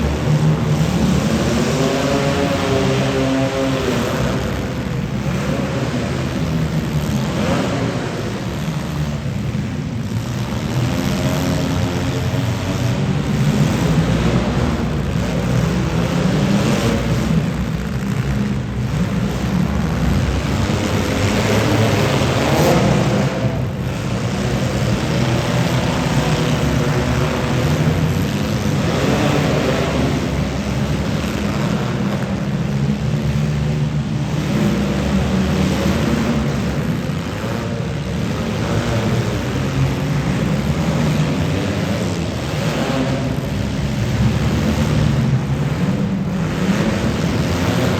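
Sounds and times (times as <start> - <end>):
car engines revving hard: 0.0 - 47.9.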